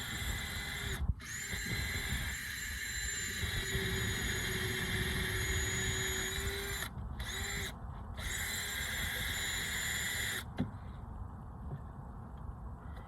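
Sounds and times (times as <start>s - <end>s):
power tool motor whine: 0.0s - 10.5s.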